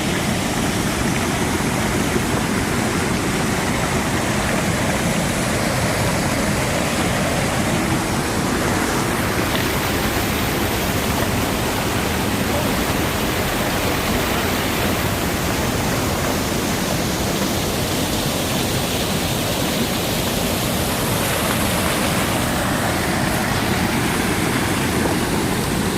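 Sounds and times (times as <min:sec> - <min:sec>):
stream water rushing over rocks: 0:00.0 - 0:25.9.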